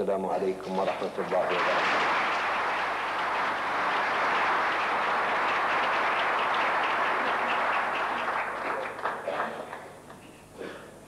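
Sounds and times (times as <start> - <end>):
audience applauding: 0.7 - 10.2.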